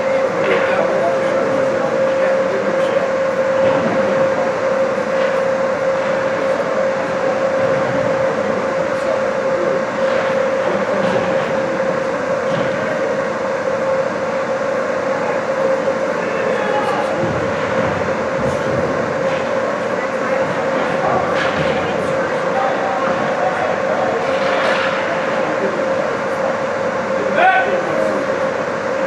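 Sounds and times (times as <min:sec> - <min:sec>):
machinery drone: 0:00.0 - 0:29.0
mid-pitched hum: 0:00.0 - 0:29.0.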